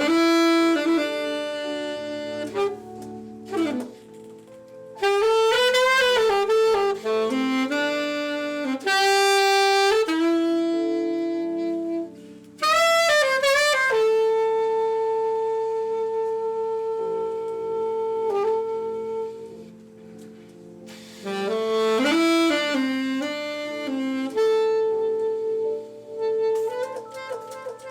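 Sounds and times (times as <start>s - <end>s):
saxophone jazz melody: 0.0s - 27.9s.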